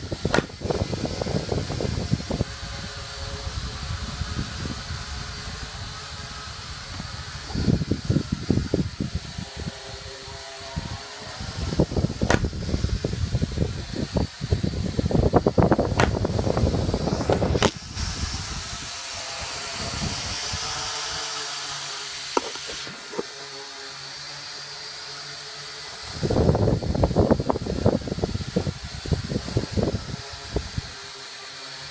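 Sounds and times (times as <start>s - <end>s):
steady hiss: 0.0s - 31.9s
toy drone motors buzzing: 0.0s - 31.9s.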